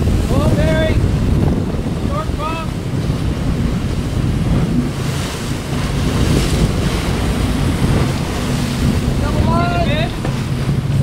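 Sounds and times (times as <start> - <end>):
boat engines running: 0.0 - 11.0
water churning and splashing: 0.0 - 11.0
wind buffeting microphone: 0.0 - 11.0.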